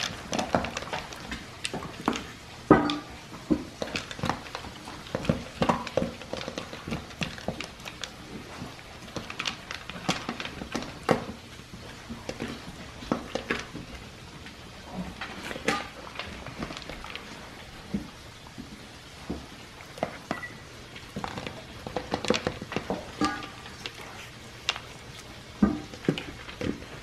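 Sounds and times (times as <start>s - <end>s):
kibble rattling in plastic bowl: 0.0s - 2.4s, 3.4s - 18.1s, 21.0s - 27.0s
dog chewing: 0.0s - 27.0s.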